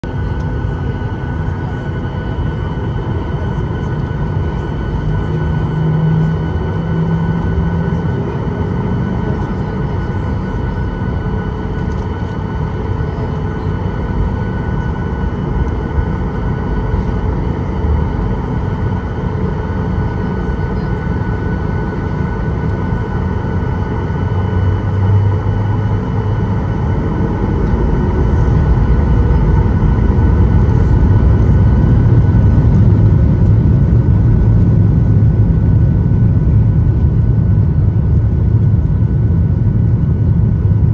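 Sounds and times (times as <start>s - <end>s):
jet engine rumble and whine: 0.0s - 40.9s.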